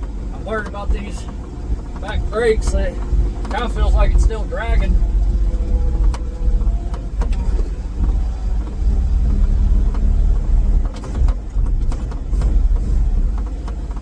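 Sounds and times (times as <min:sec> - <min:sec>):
short knocks and rattles: 0:00.0 - 0:14.0
truck engine rumble: 0:00.0 - 0:14.0.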